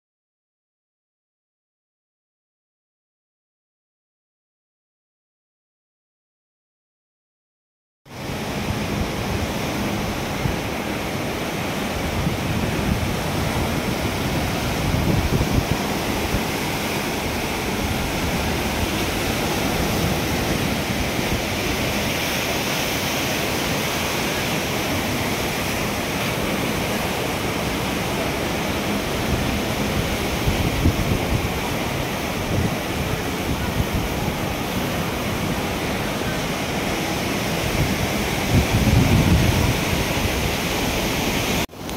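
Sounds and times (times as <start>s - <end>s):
ocean surf breaking: 8.1s - 41.9s
wind on microphone: 8.2s - 41.9s.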